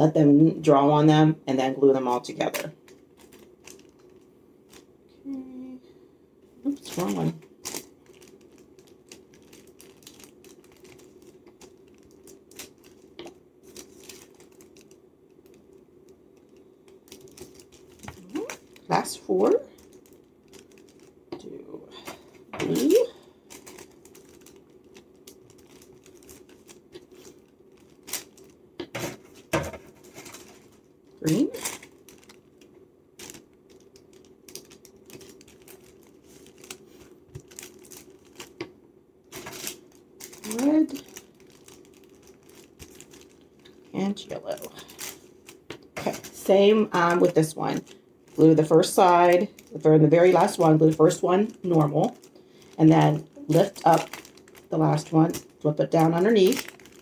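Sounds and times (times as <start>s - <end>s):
faint steady hum: 0.0s - 57.0s
paper crinkling: 2.8s - 4.9s, 6.7s - 21.2s, 22.0s - 38.6s, 39.3s - 57.0s.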